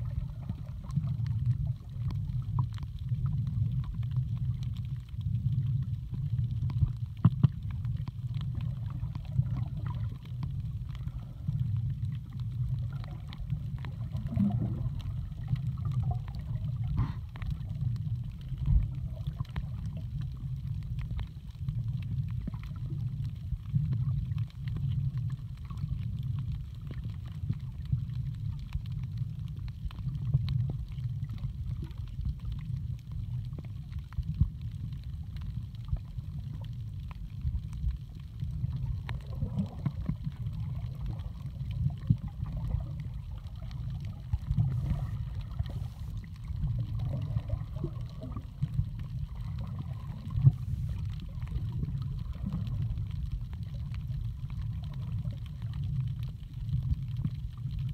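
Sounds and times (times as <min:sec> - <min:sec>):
faint clicks and crackles: 0:00.0 - 0:57.9
muffled underwater rumble: 0:00.0 - 0:57.9
swishing water: 0:00.0 - 0:57.9.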